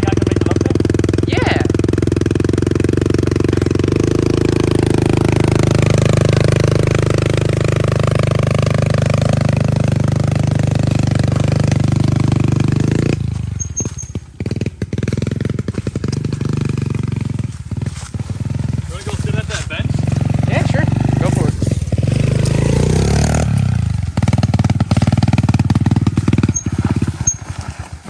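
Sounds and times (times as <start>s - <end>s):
motorbike engine revving: 0.0s - 28.0s.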